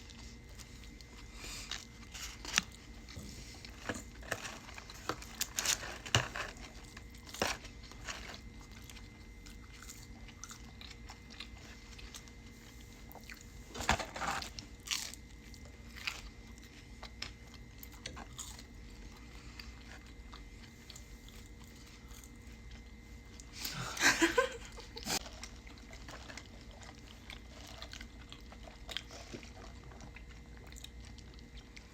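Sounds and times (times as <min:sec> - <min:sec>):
crunching bites and chewing: 0:00.0 - 0:23.6, 0:25.2 - 0:31.9.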